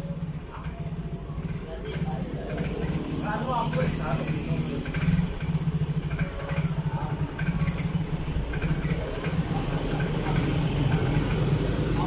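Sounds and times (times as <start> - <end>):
scooter engine revving unevenly: 0.0 - 12.0.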